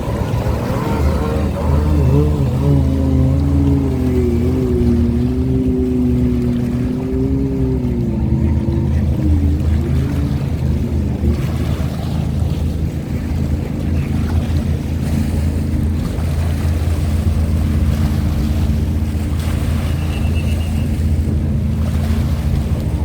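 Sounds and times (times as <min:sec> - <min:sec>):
jet ski engines running: 0:00.0 - 0:23.0.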